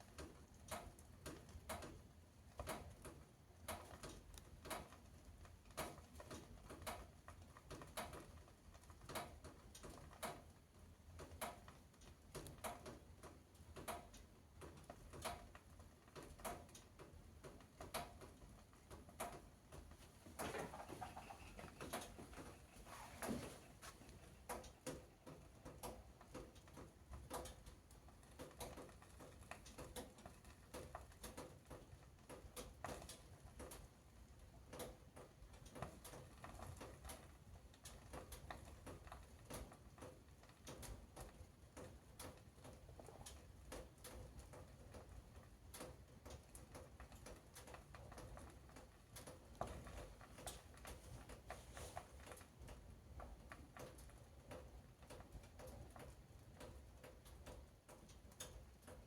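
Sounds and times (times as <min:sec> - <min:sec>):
fire crackling in a stove: 0:00.0 - 0:59.0.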